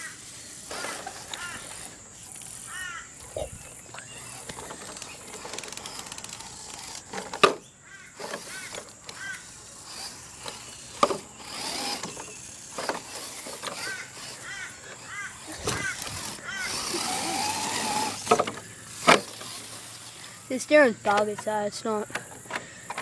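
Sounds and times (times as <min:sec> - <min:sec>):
rc car whirring and grinding: 0:00.0 - 0:23.0.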